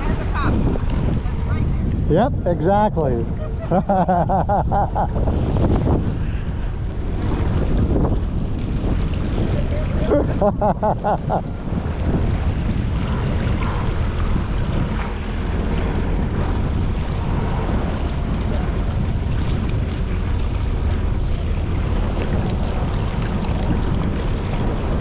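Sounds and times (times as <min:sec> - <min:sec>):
jet ski engine: 0:00.0 - 0:25.0
rushing water: 0:00.0 - 0:25.0
wind buffeting microphone: 0:00.0 - 0:25.0.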